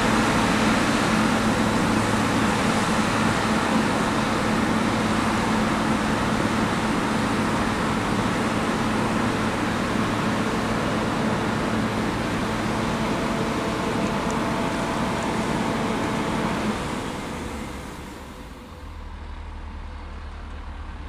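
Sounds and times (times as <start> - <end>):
snowplow engine and blower running: 0.0 - 21.0.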